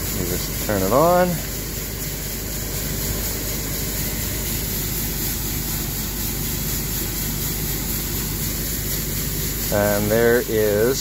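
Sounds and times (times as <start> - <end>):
machinery droning with hiss: 0.0 - 11.0.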